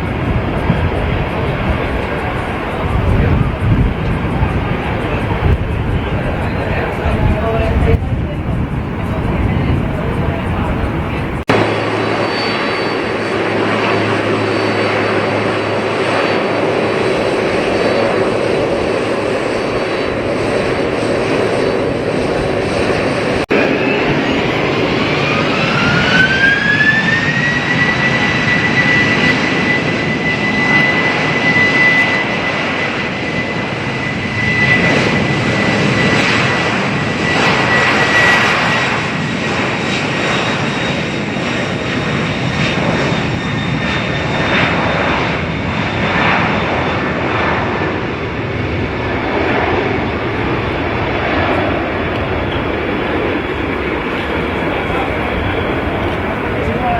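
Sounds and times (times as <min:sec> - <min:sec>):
jet airliner engines running: 0:00.0 - 0:56.9
jet engine whine spooling up: 0:00.0 - 0:56.9.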